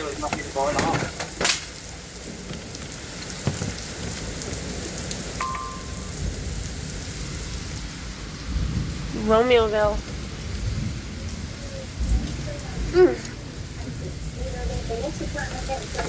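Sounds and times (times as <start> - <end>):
heavy rain falling: 0.0 - 16.0
thunder rumbling: 0.0 - 16.0.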